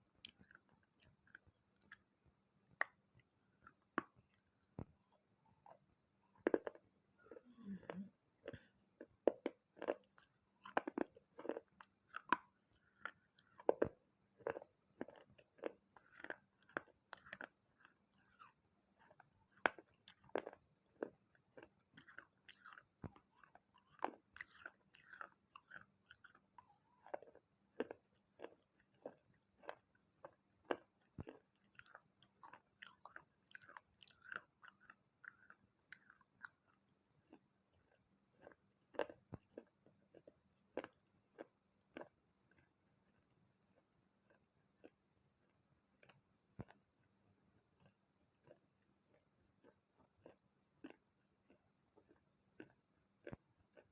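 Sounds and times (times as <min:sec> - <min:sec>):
person chewing clay pot crunches: 0:00.2 - 0:02.2, 0:02.8 - 0:53.9.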